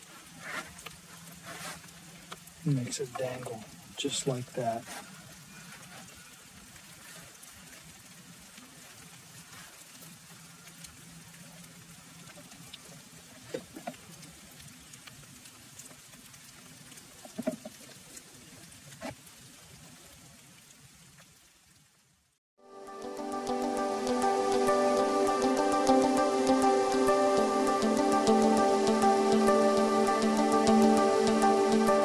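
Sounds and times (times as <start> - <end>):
outdoor background hiss: 0.0 - 32.0.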